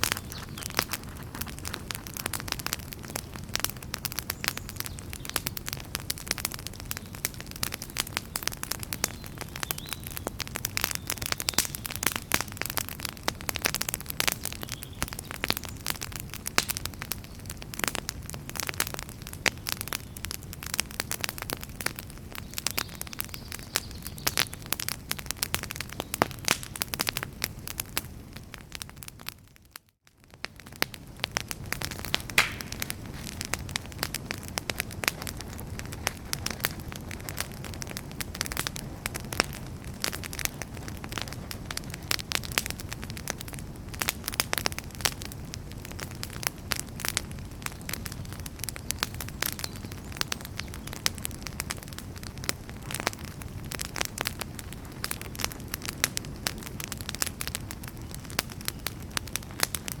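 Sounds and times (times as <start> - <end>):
fire crackling and popping: 0.0 - 60.0
low noise of flames: 0.0 - 60.0.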